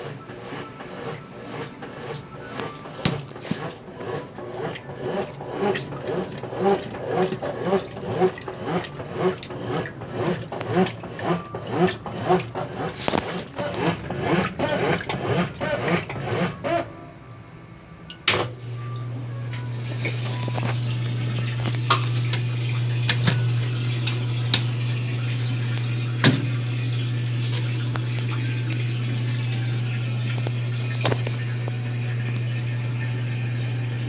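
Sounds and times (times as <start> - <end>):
water and clothes sloshing: 0.0 - 17.0, 18.2 - 34.0
washing machine agitating: 0.0 - 34.0.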